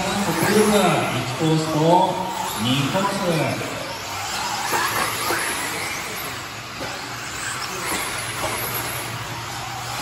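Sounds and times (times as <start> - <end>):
drivetrain and tyre noise: 0.0 - 10.0
electric motor whine: 0.0 - 10.0.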